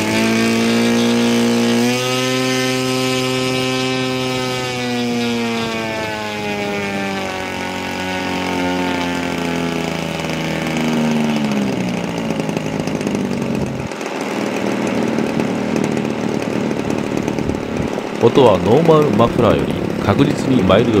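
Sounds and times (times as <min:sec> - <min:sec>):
model plane engine running: 0:00.0 - 0:21.0.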